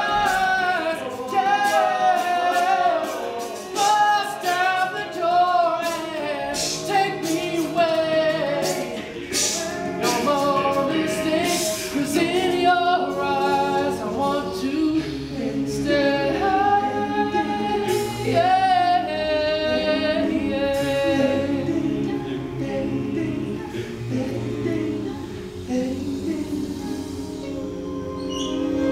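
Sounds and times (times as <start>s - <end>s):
men singing a cappella harmony: 0.0s - 28.9s.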